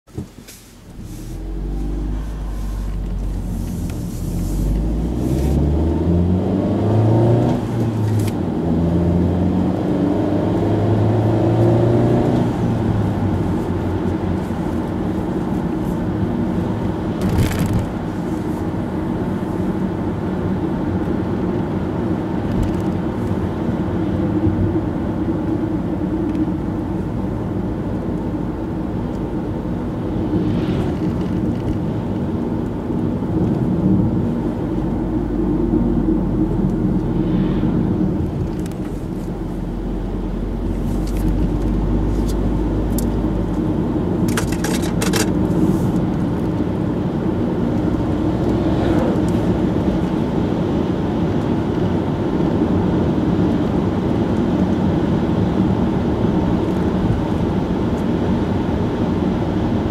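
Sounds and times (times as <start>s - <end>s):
tyre road rumble: 0.0s - 59.9s
car engine accelerating: 0.1s - 19.4s, 25.2s - 59.8s.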